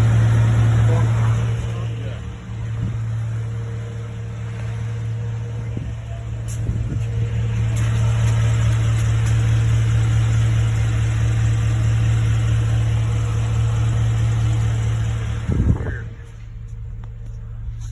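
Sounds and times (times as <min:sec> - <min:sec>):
truck engine idling: 0:00.0 - 0:17.9.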